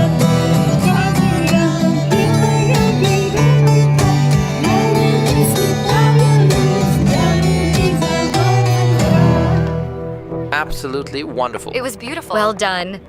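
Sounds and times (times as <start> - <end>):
loud guitar music: 0.0 - 13.0.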